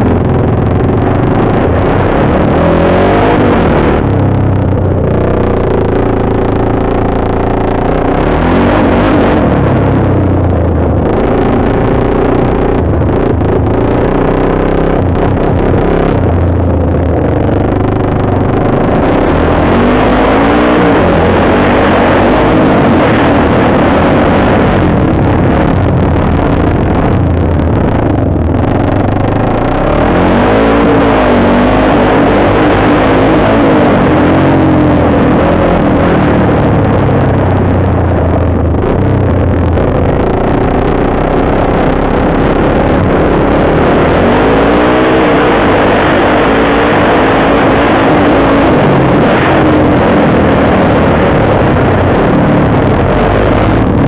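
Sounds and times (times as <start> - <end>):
off-road bike engine revving: 0.0 - 54.0.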